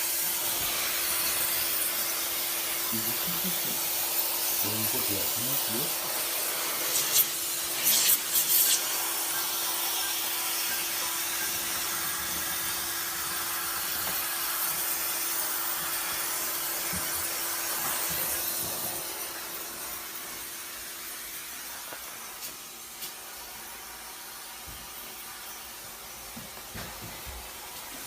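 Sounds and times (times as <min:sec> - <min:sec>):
water sprayer hissing: 0:00.0 - 0:28.0.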